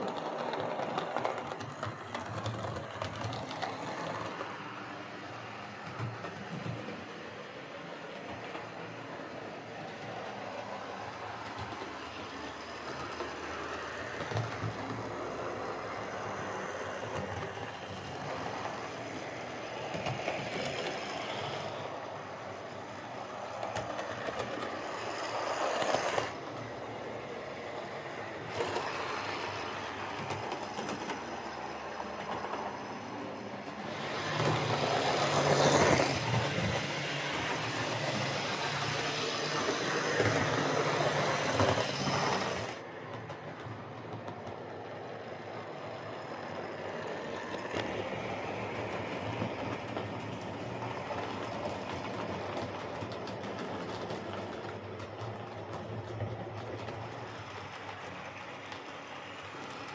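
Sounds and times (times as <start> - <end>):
model train running on track: 0.0 - 59.9.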